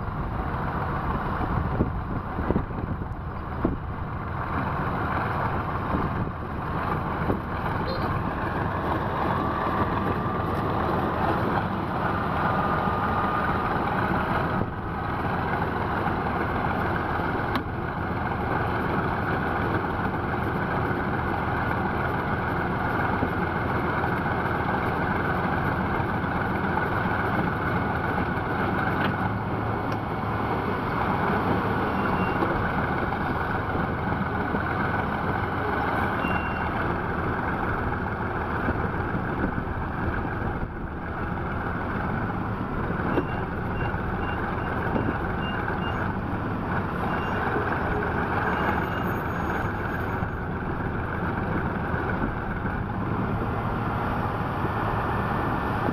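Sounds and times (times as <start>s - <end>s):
heavy vehicle engines running: 0.0s - 55.9s.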